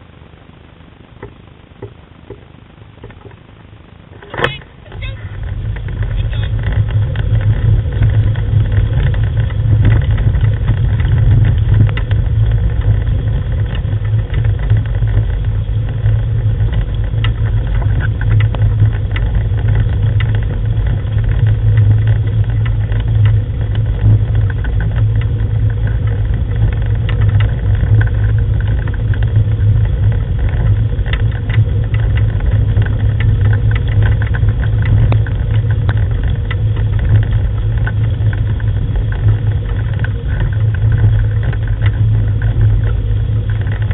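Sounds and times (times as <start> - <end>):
wheeled rig rolling over gravel: 3.0 - 43.9.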